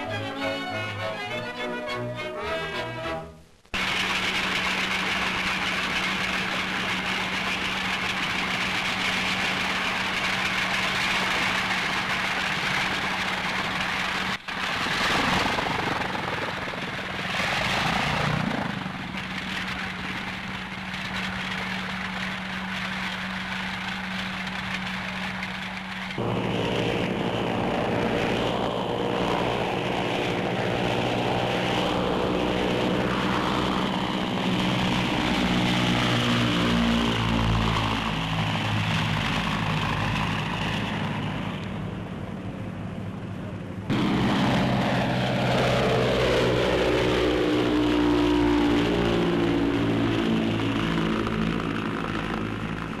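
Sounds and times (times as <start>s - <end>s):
plane passing overhead: 0.0s - 53.0s
propeller engines droning: 0.0s - 53.0s.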